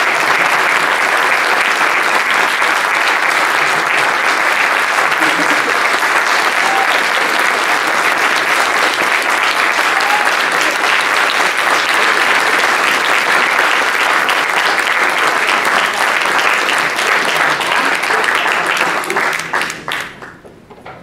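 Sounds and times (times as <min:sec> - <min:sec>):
audience applauding: 0:00.0 - 0:20.5.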